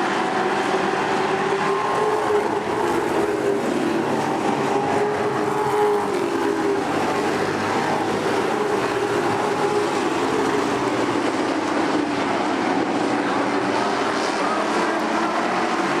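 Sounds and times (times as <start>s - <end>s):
race truck engines: 0.0s - 16.0s.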